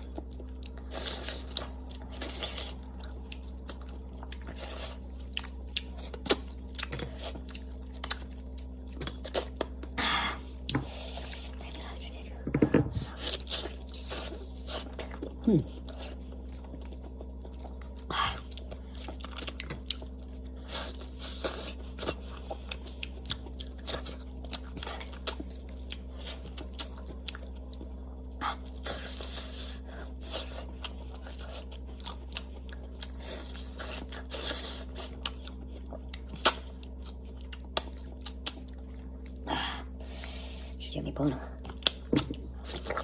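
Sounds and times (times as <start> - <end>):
chewing and biting food: 0.0 - 11.8, 13.2 - 40.0, 41.6 - 43.0
steady low hum: 0.0 - 43.0.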